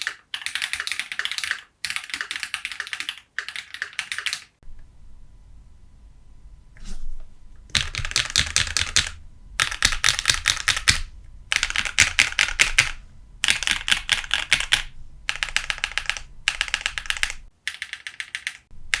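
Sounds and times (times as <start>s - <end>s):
mechanical keyboard typing: 0.0s - 4.6s, 7.7s - 19.0s.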